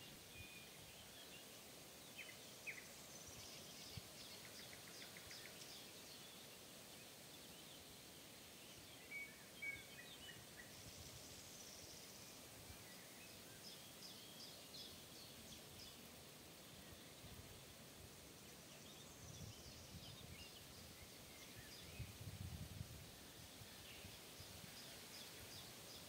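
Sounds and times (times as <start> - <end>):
soft background hiss: 0.0 - 26.0.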